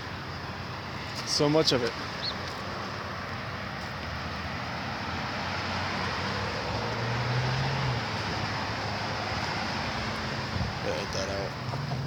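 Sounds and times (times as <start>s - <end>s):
car passing by: 0.9s - 12.0s.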